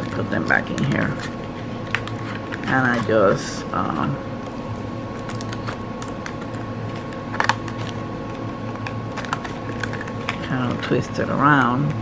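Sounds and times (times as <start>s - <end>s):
scissors and plastic package rustling: 0.0s - 3.6s, 5.1s - 11.9s
steady low hum: 0.0s - 12.0s.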